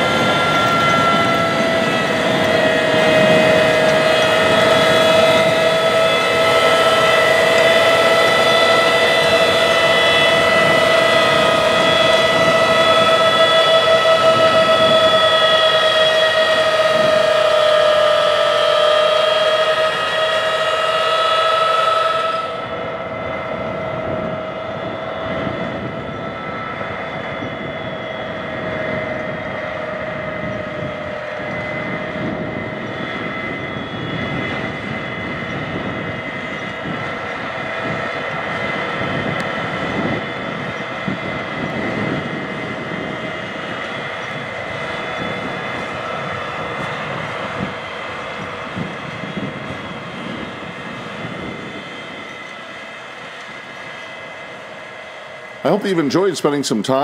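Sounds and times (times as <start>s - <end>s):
steady whine: 0.0s - 57.0s
tractor diesel engine running: 0.0s - 57.0s.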